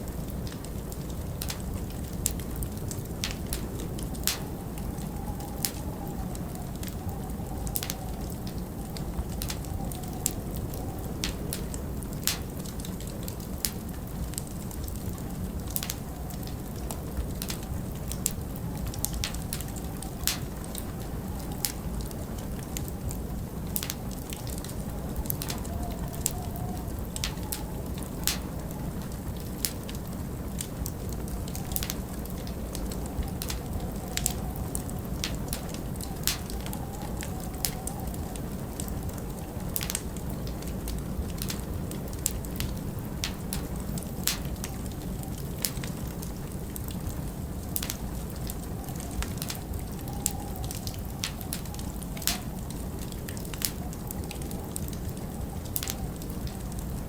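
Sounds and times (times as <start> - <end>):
wind rumbling: 0.0 - 57.0
wood fire crackling and popping: 0.0 - 57.0.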